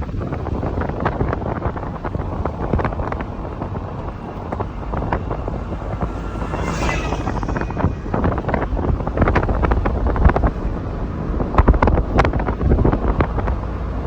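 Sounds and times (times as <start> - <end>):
low vehicle rumble: 0.0 - 14.0
wind buffeting microphone: 0.0 - 14.0.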